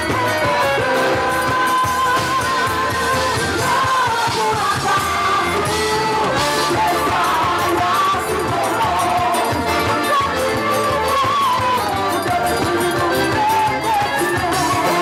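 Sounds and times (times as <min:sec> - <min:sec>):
full band playing: 0:00.0 - 0:15.0.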